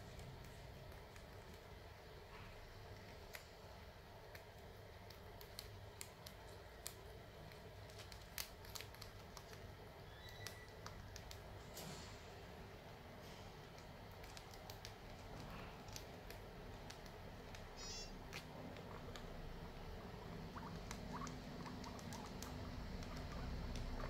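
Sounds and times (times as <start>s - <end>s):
guinea pigs chewing corn husk: 0.0s - 24.0s.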